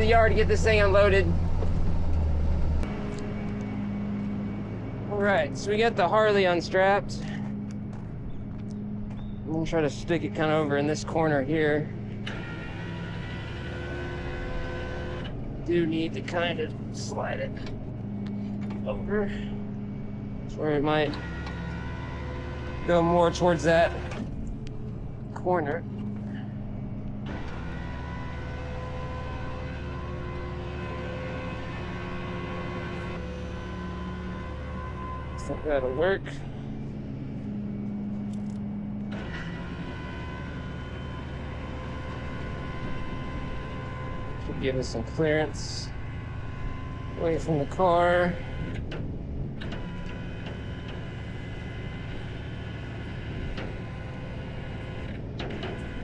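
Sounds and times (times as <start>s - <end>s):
truck engine running with whine: 0.0s - 56.0s.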